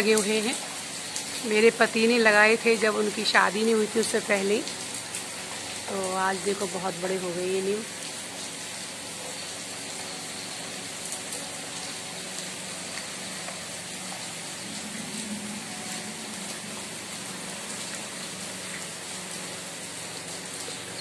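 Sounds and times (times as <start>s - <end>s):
heavy rain splashing into water: 0.0s - 21.0s.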